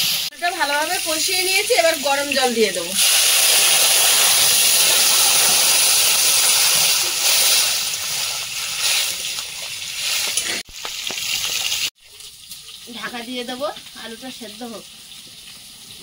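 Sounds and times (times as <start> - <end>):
water hissing in hot wok: 0.0 - 16.0.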